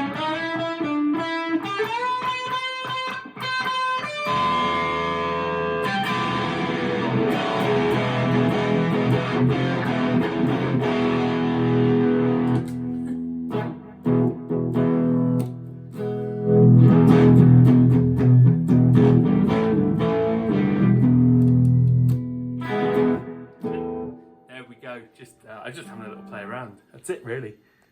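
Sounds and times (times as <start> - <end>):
overdriven electric guitar: 0.0 - 24.5.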